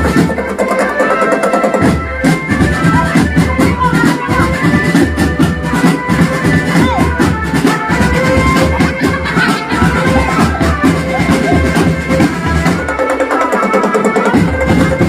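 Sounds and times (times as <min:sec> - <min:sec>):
drums beating: 0:00.0 - 0:15.0.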